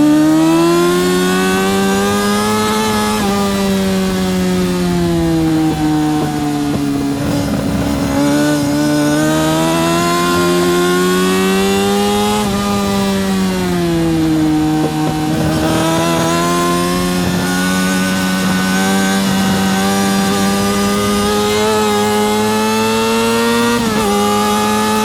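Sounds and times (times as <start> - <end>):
motorcycle engine at racing speed: 0.0 - 25.0
wind rush: 0.4 - 24.8.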